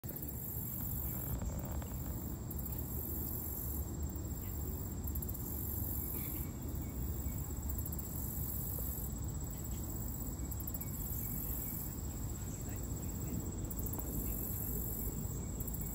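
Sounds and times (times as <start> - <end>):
high insect calls: 0.0 - 15.9.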